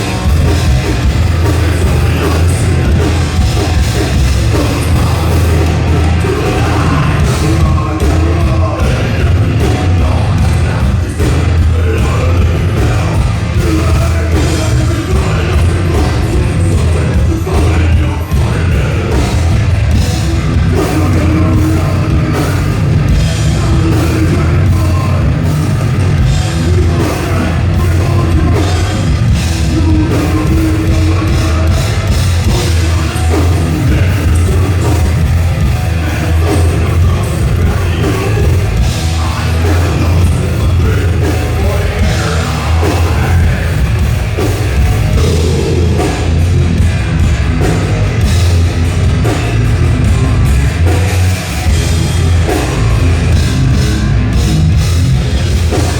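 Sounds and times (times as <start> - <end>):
bass guitar: 0.0 - 55.9
distorted electric guitars: 0.0 - 55.9
fast drum kit: 0.0 - 55.9
vocals: 0.0 - 55.9.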